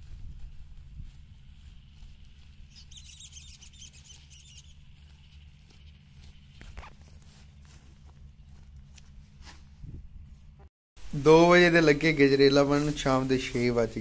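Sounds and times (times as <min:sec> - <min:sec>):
leafy stalks rustling: 0:00.0 - 0:14.0
low steady hum: 0:00.0 - 0:14.0.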